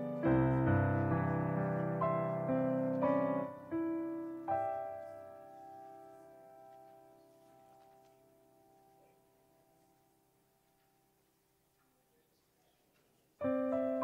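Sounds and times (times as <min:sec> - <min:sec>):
slow gentle piano music: 0:00.0 - 0:11.6, 0:13.1 - 0:14.0.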